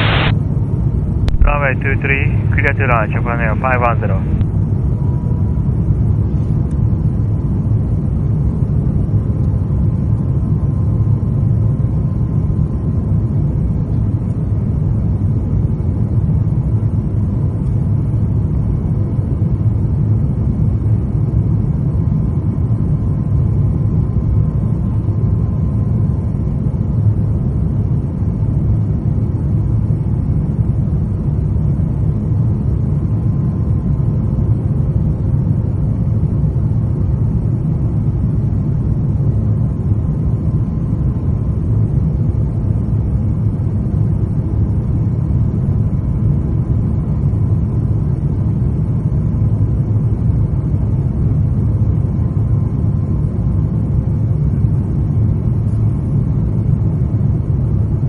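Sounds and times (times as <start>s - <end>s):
airplane cabin rumble: 0.0s - 58.0s
faint steady hum: 0.0s - 58.0s.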